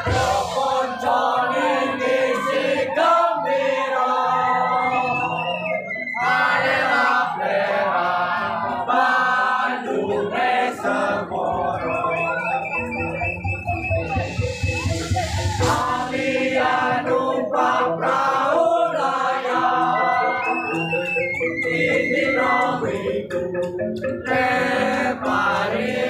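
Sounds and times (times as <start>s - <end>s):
group singing together: 0.0s - 26.0s.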